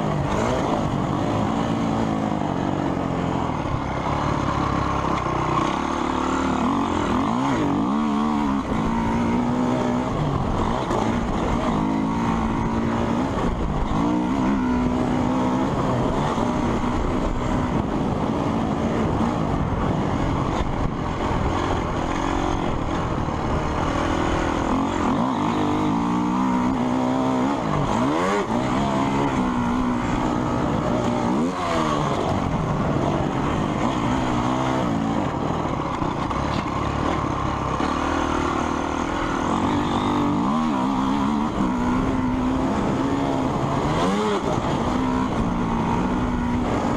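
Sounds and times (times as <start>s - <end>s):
motocross motorcycle engines revving: 0.0s - 46.9s.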